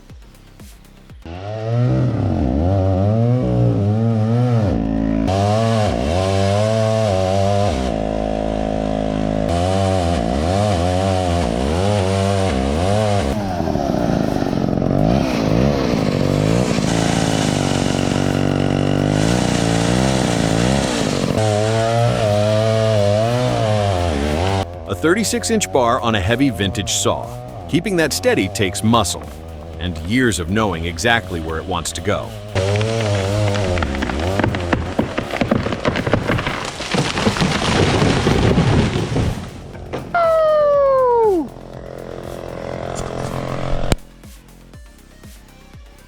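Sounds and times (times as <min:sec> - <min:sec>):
chainsaw revving: 0:01.2 - 0:44.3.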